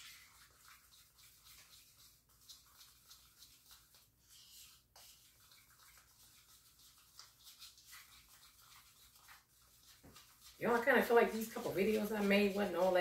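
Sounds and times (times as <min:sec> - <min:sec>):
spoon stirring icing in tub: 0:00.0 - 0:13.0.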